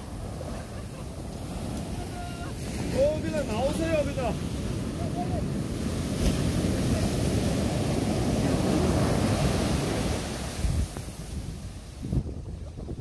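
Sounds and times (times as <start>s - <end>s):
heavy surf breaking: 0.0s - 13.0s
wind buffeting microphone: 0.0s - 13.0s.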